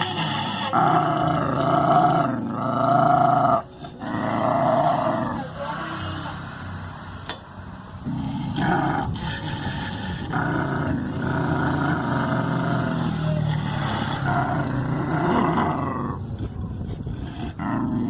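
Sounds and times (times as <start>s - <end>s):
deep animal roaring and growling: 0.0s - 5.6s, 8.0s - 16.3s, 17.1s - 18.0s.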